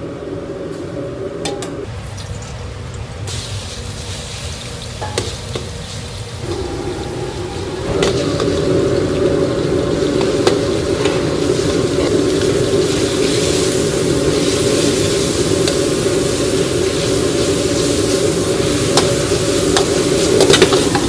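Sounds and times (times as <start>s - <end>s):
kitchen hum: 0.0s - 21.0s
food frying and sizzling: 0.1s - 21.0s.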